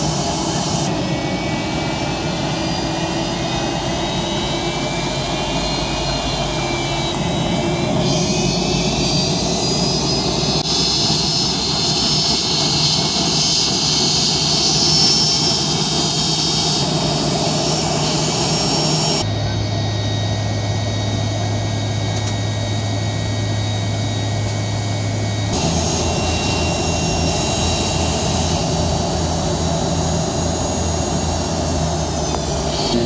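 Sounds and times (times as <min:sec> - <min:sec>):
jet engines with turbine whine: 0:00.0 - 0:33.0.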